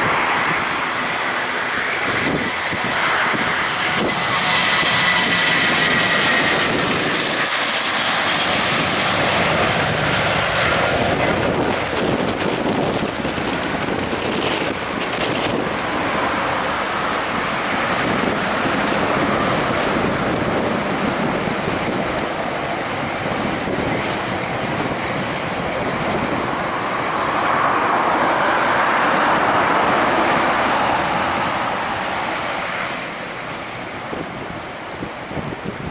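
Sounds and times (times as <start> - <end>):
jet engine roar: 0.0 - 35.9
jet engine whine: 0.0 - 35.9
wind buffeting microphone: 0.0 - 35.9.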